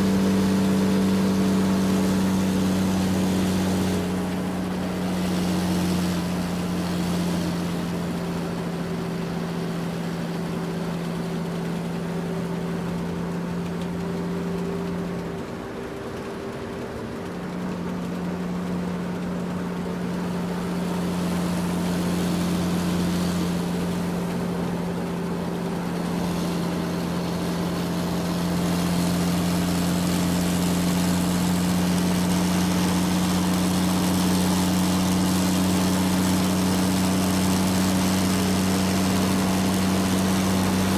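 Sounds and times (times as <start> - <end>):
excavator diesel engine droning: 0.0 - 40.9.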